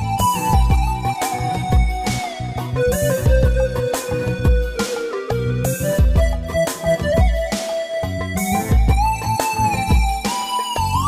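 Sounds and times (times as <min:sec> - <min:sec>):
drum beat with deep bass: 0:00.0 - 0:11.0
gliding lead melody: 0:00.0 - 0:11.0.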